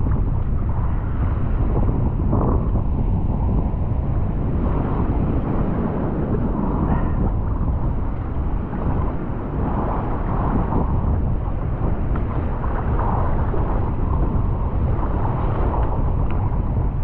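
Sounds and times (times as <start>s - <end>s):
choppy sea: 0.0s - 17.0s
wind buffeting microphone: 0.0s - 17.0s.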